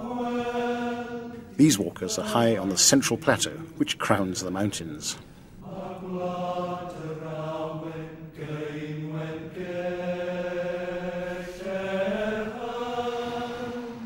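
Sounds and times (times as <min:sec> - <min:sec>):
slow sung chant: 0:00.0 - 0:03.9, 0:05.1 - 0:14.0.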